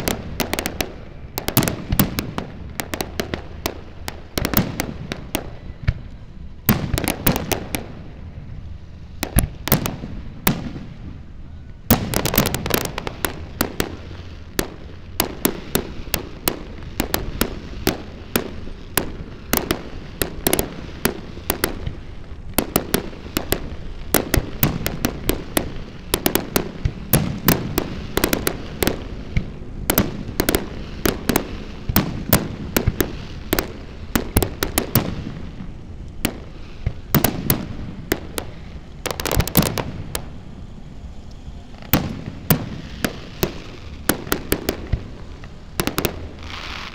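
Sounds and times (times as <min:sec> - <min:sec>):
fireworks bangs and pops: 0:00.0 - 0:08.2, 0:09.2 - 0:11.2, 0:11.9 - 0:40.4, 0:41.8 - 0:46.9.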